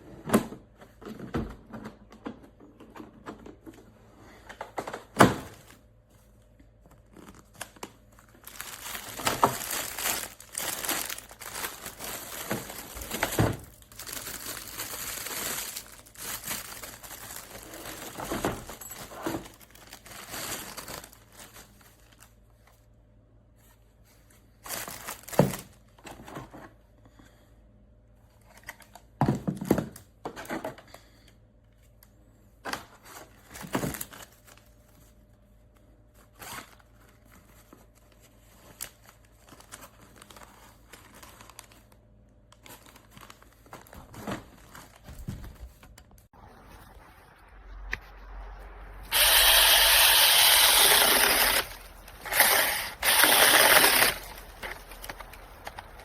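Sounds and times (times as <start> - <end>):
crinkling and rustling handling noises: 0.5 - 27.4, 28.1 - 56.0.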